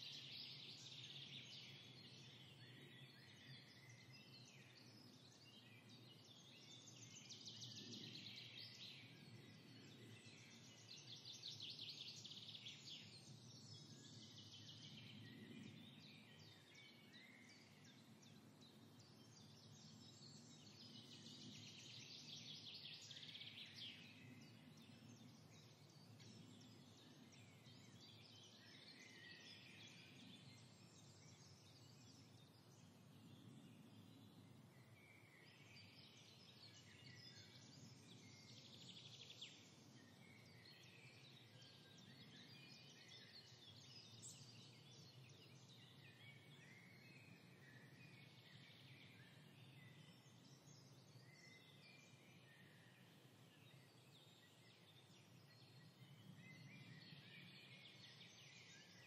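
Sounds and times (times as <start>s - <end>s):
birdsong trills and chirps: 0.0s - 59.0s.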